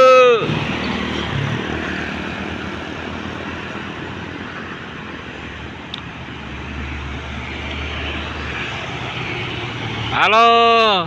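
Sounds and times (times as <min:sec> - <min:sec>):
heavy vehicle engines: 0:00.0 - 0:11.0
tyre and road noise: 0:00.0 - 0:11.0.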